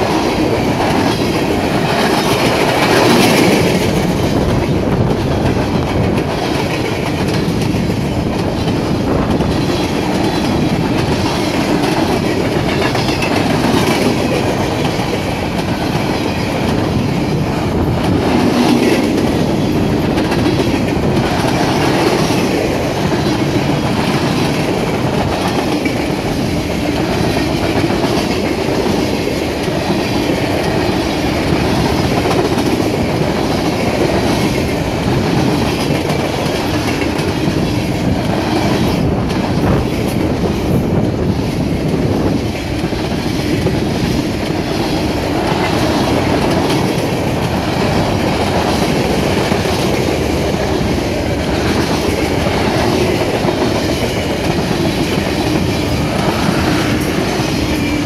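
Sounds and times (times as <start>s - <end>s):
freight cars rolling on rails: 0.0s - 58.0s.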